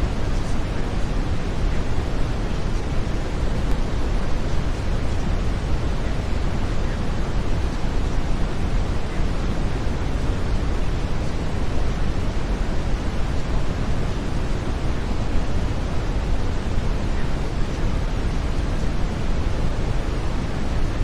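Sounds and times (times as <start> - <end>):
brown noise hiss: 0.0 - 21.0.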